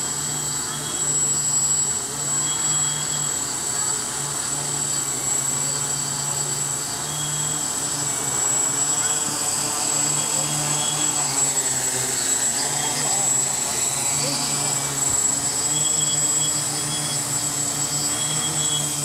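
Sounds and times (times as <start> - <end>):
quadcopter hovering: 0.0 - 19.0.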